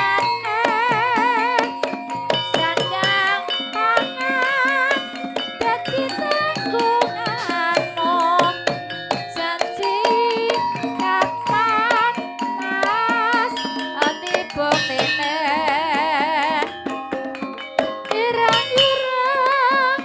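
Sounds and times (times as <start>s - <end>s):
hand drum strokes: 0.0s - 20.0s
metallophone notes: 0.0s - 20.0s
wavering vibrato melody: 0.0s - 20.0s.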